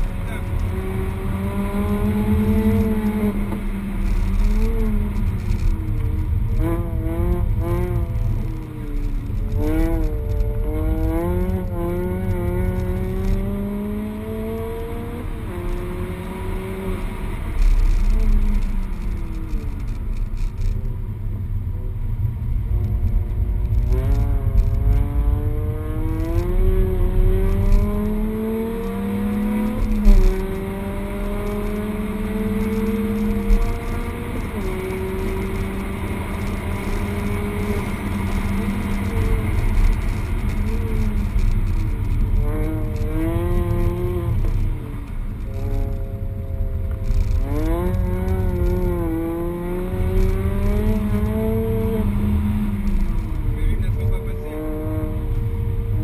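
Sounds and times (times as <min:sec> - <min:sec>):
car engine accelerating: 0:00.0 - 0:56.0
road and tyre rumble: 0:00.0 - 0:56.0.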